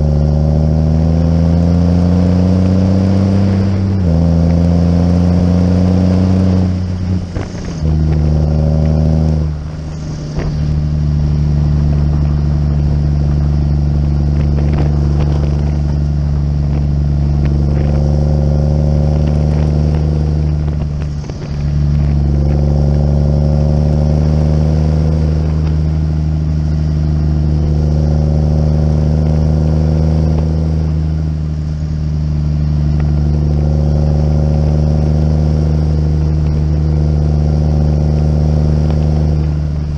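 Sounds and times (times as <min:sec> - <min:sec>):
diesel engine under load: 0:00.0 - 0:39.9
gear whine: 0:00.0 - 0:39.9.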